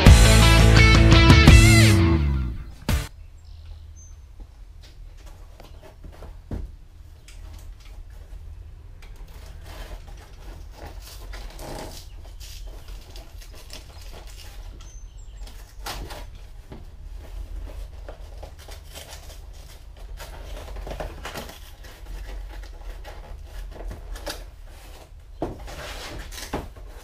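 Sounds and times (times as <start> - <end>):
cardboard rustling and scraping: 5.0 - 27.0.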